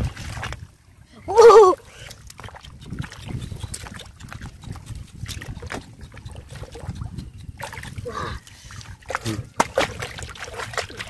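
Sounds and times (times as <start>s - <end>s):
hands squelching in muddy water: 0.0s - 0.8s, 1.7s - 11.0s.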